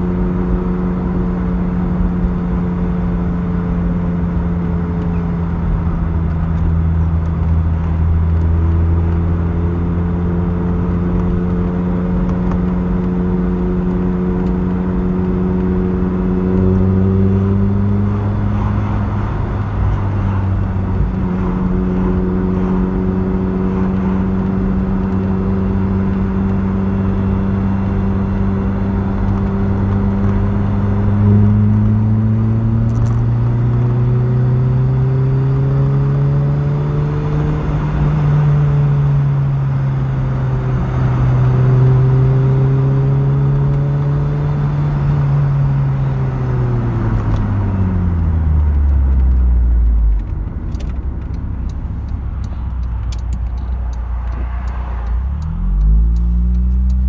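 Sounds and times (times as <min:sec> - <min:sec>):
car engine pulling at speed: 0:00.0 - 0:57.0
tyre and road noise: 0:00.0 - 0:57.0.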